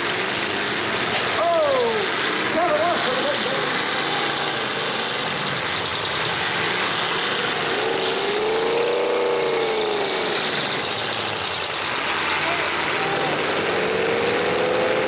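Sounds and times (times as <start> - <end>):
car engines running hard: 0.0 - 15.0
engine revving: 0.0 - 15.0.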